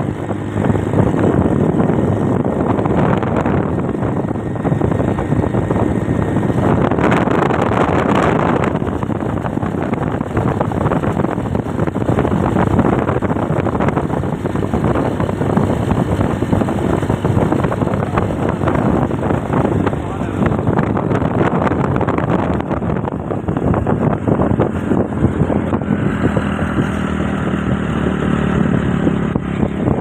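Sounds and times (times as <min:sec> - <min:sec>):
wind rushing on microphone: 0:00.0 - 0:30.0.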